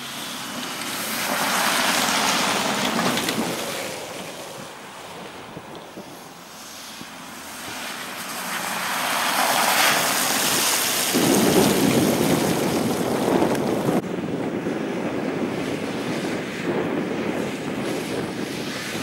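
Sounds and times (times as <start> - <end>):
off-road vehicle engine: 0.0 - 19.0
tyres on snow and mud: 0.0 - 19.0
wind buffeting microphone: 0.6 - 19.0.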